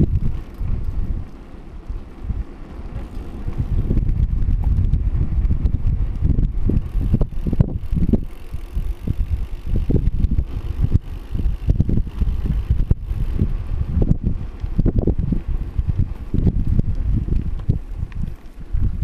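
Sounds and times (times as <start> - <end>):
bicycle rolling on pavement: 0.0 - 19.0
bike rattles and knocks: 0.0 - 19.0
wind buffeting microphone: 0.0 - 19.0.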